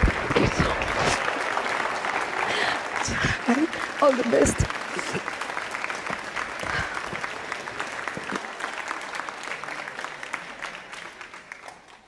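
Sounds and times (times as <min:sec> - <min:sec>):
applause: 0:00.0 - 0:12.0.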